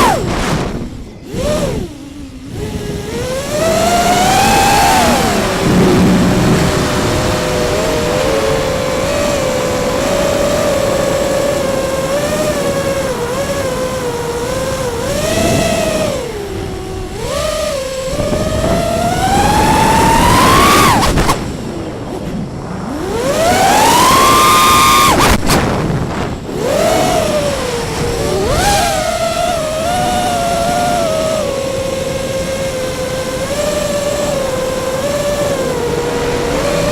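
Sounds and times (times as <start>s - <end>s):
electric motor whine: 0.0s - 36.9s.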